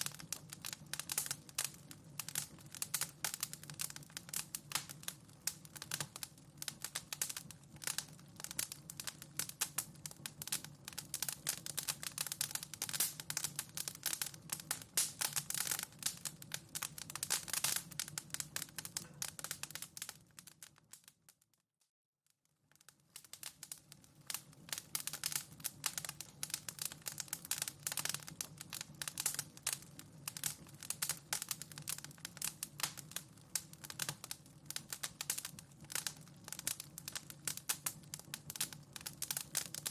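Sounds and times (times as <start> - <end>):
wood fire crackling: 0.0 - 21.4, 22.7 - 39.9.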